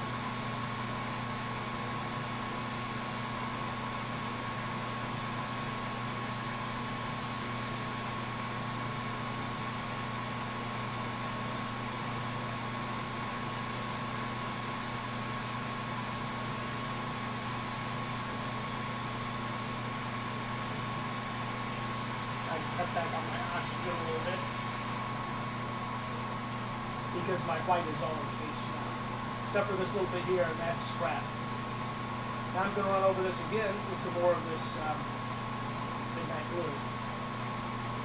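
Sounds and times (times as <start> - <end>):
constant hum: 0.0 - 38.0
torch flame hissing: 0.1 - 37.6.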